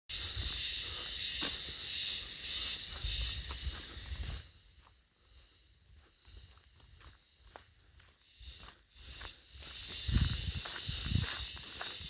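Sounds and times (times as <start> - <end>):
cicadas buzzing: 0.1 - 12.0.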